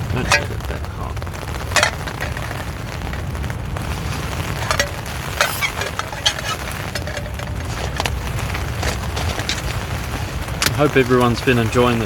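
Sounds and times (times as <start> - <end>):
meat frying in a pan: 0.0 - 12.0
wind rumble on microphone: 0.0 - 12.0.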